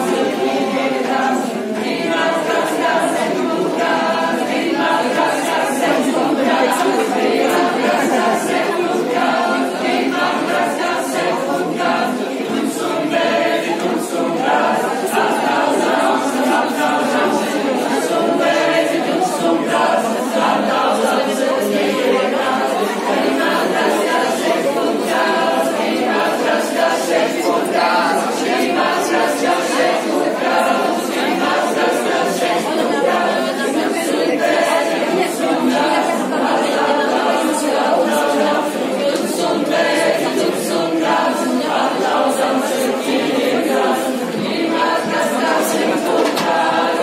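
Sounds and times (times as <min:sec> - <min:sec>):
group singing unaccompanied: 0:00.0 - 0:47.0.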